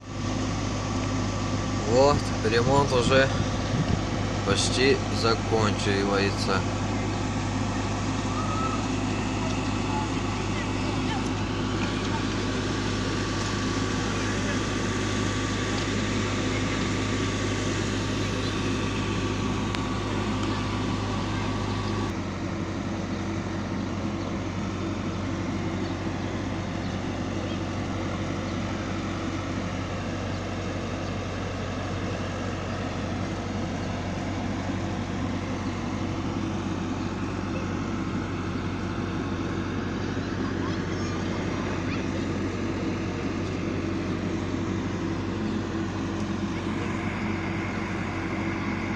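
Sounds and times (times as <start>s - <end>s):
heavy machinery engine running: 0.0s - 48.9s.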